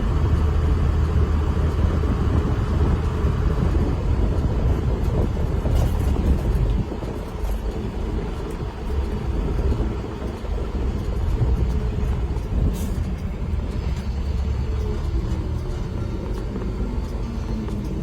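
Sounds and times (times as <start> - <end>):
pickup engine rumbling: 0.0 - 18.0.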